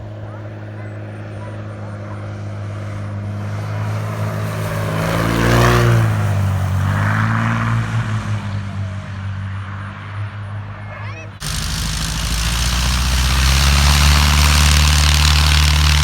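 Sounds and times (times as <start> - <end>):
propeller airplane flying past: 0.0 - 16.0.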